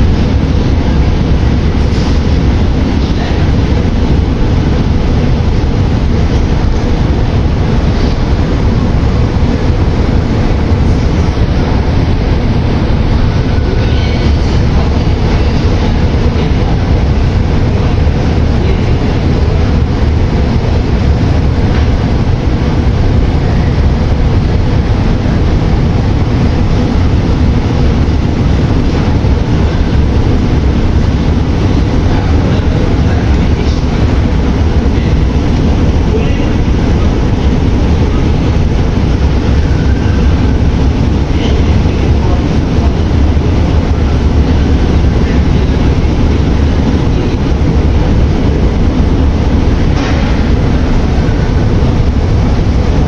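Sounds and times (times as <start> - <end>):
metro train rumbling: 0.0 - 53.0.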